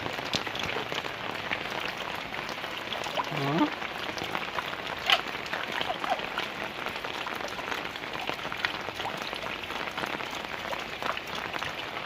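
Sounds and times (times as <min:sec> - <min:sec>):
rain hissing: 0:00.0 - 0:12.0
raindrop ticks: 0:00.0 - 0:12.0.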